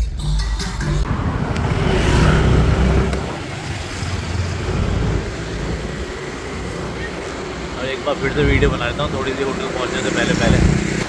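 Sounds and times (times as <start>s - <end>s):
road traffic rumble: 1.0s - 11.0s.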